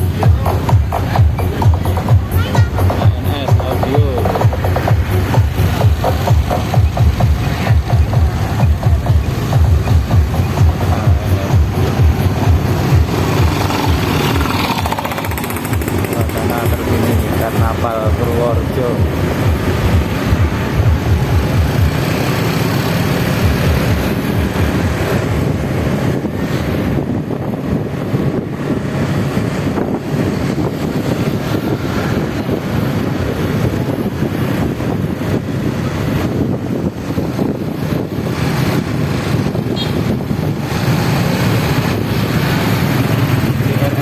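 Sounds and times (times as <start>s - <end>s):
loud distorted bass: 0.0s - 44.0s.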